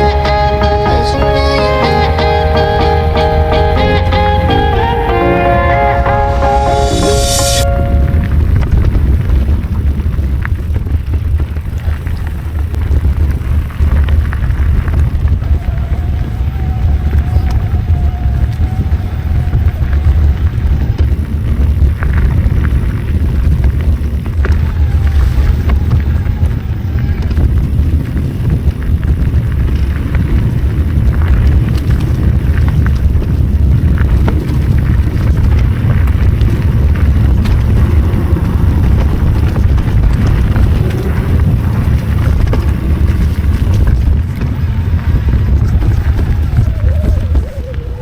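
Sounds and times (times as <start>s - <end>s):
wind buffeting microphone: 7.6s - 48.0s.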